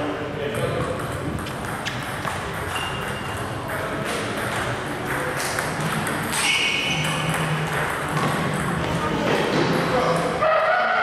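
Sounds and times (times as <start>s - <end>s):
background noise: 0.0s - 11.0s
table tennis ball bouncing: 0.4s - 10.4s.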